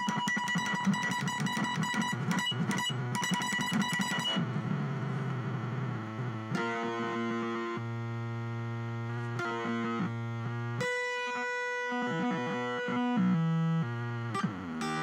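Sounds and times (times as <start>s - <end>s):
glitchy distorted electric guitar: 0.0s - 15.0s.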